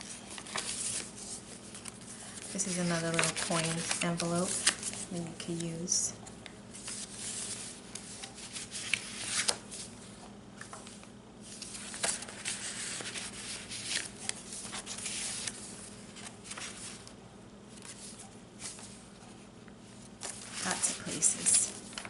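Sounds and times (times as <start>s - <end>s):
paper rustling and crinkling: 0.0s - 6.0s, 6.7s - 19.3s, 20.0s - 22.0s
faint steady hum: 0.0s - 22.0s.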